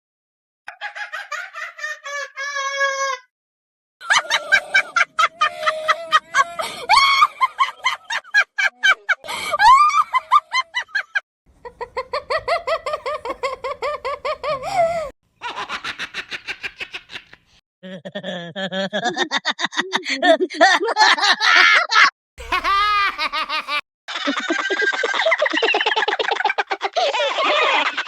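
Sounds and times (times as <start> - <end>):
high-pitched cackling laugh: 0.7 - 3.3, 4.0 - 28.0
rhythmic laugh: 4.0 - 28.0.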